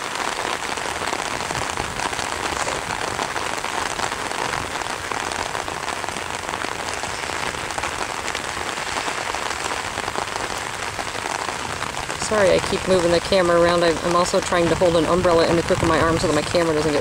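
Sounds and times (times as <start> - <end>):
rain on an umbrella: 0.0 - 17.0.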